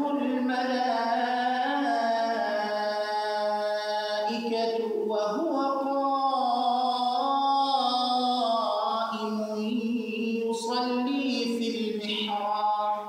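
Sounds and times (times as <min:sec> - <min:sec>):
man reciting in chant-like style: 0:00.0 - 0:13.0.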